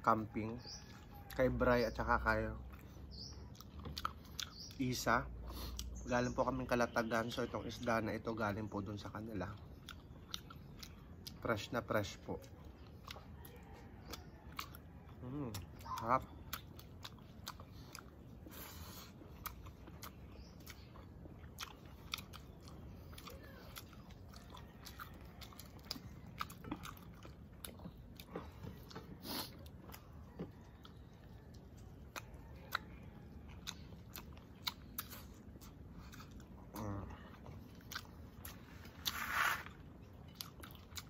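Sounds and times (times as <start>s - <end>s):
person chewing and biting: 2.7s - 4.8s, 8.9s - 41.0s.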